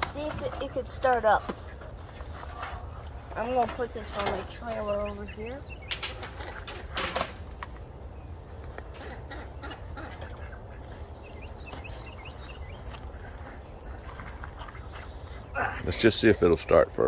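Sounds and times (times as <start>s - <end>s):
poultry calls: 0.0s - 7.0s, 8.8s - 16.0s.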